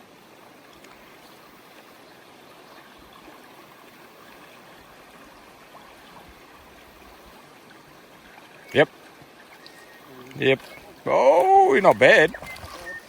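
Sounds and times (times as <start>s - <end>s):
river water flowing over stones: 0.0s - 13.0s.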